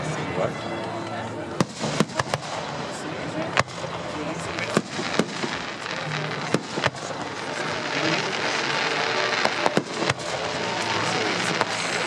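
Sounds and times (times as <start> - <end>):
crackling hiss of fireworks: 1.5 - 12.0
fireworks bangs: 1.6 - 12.0.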